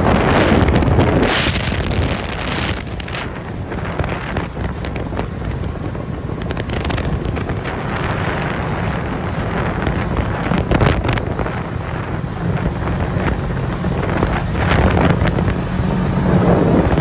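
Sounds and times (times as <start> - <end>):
steady low rumble: 0.0 - 17.0
wind buffeting microphone: 0.0 - 17.0.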